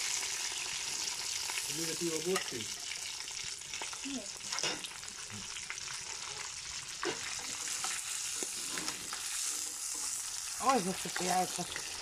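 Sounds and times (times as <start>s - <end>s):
fish deep-frying in oil: 0.0s - 12.0s.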